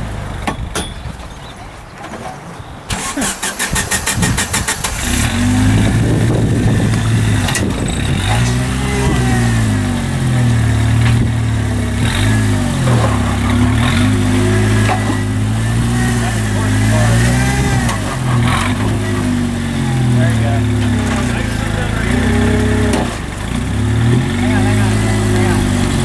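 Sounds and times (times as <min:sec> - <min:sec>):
engine revs rising and falling: 0:02.9 - 0:26.0.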